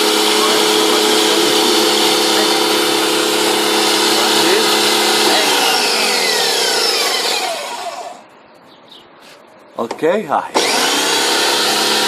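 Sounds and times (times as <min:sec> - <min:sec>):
pressure washer running: 0:00.0 - 0:08.2, 0:10.5 - 0:12.0.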